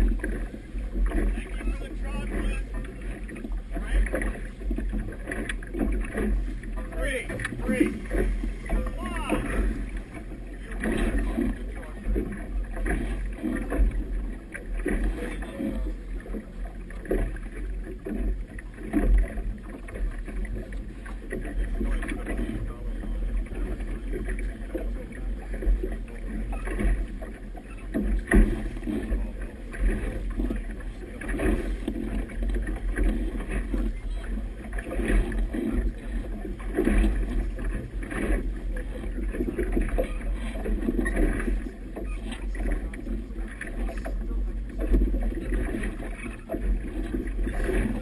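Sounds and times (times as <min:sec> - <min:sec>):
water splashing against boat hull: 0:00.0 - 0:48.0.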